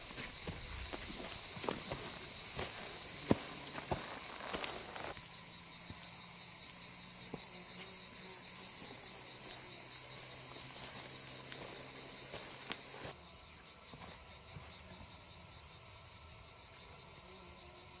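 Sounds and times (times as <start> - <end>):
insects shrilling: 0.0 - 18.0.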